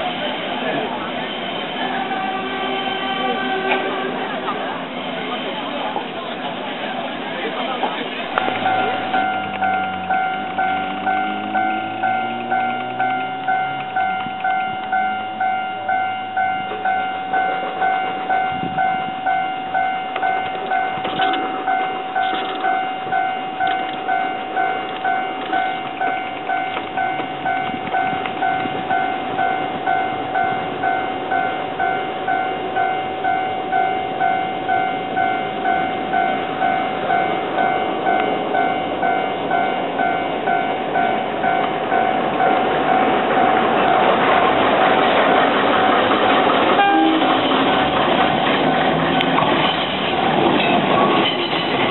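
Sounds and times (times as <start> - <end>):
level crossing warning bell: 0.0 - 44.7, 46.7 - 51.9
diesel railcar approaching: 0.0 - 51.9.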